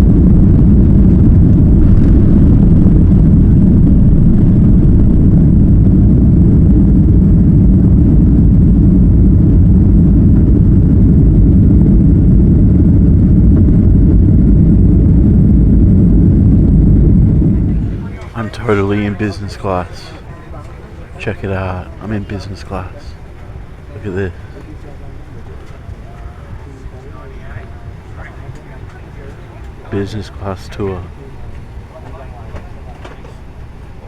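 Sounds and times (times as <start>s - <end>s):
jet engine rumble: 0.0s - 34.0s.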